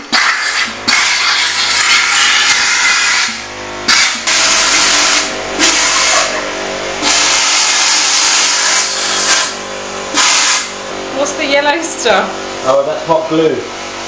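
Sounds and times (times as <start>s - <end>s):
air compressor motor running: 0.0s - 14.0s.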